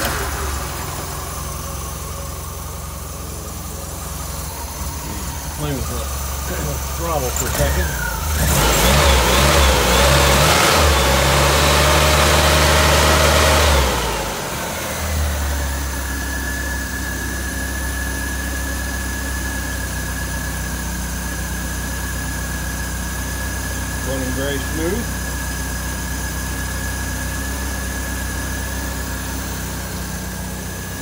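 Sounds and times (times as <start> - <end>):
car engine revving and idling: 0.0 - 31.0.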